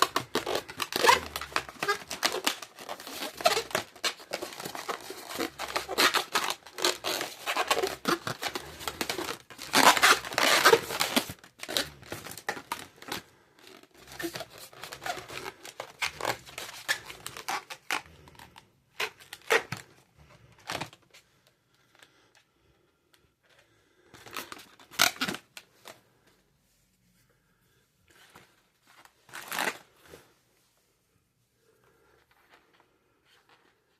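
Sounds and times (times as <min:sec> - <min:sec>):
balloons twisting and crinkling: 0:00.0 - 0:33.9.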